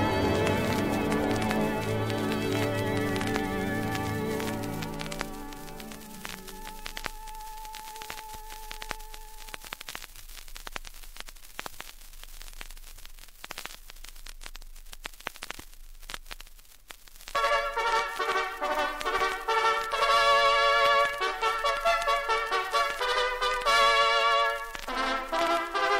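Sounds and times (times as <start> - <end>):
vinyl record hiss and crackle: 0.0 - 25.9.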